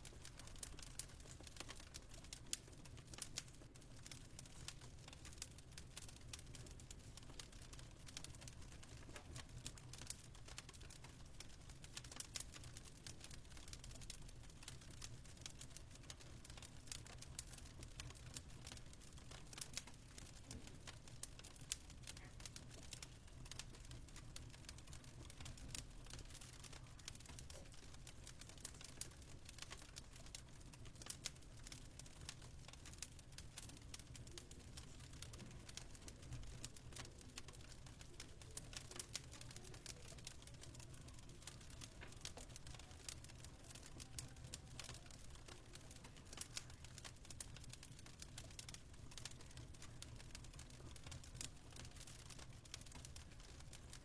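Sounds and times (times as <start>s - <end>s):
fireplace crackling: 0.0s - 54.0s.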